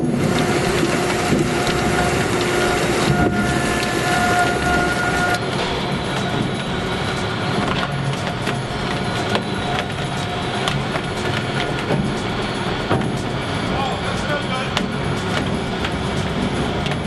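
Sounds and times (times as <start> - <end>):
shredder grinding and churning: 0.0 - 17.0.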